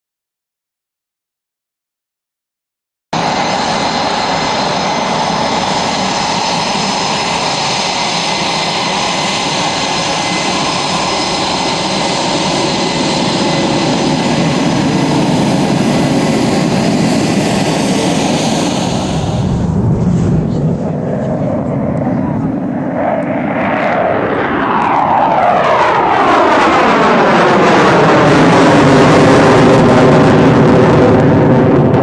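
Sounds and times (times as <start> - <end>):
jet engines rushing: 3.2 - 32.0.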